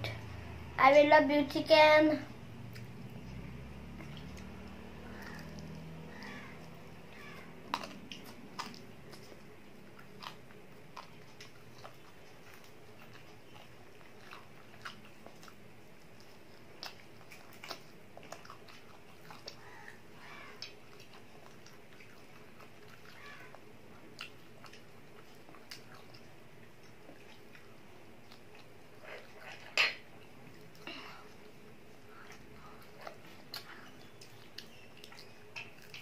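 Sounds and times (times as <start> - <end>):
child chewing fried chicken: 2.1 - 36.0.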